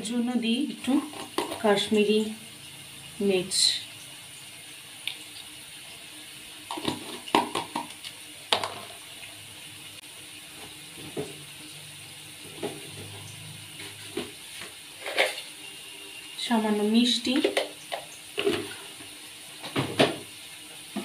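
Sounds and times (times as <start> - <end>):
potatoes frying in oil: 0.0 - 21.0.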